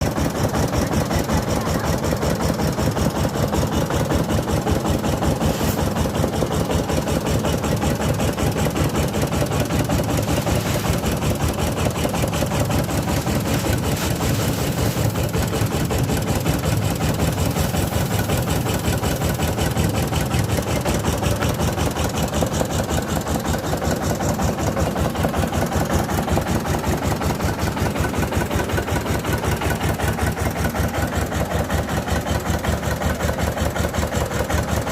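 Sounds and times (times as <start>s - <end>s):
diesel engine pulsing: 0.0s - 34.9s.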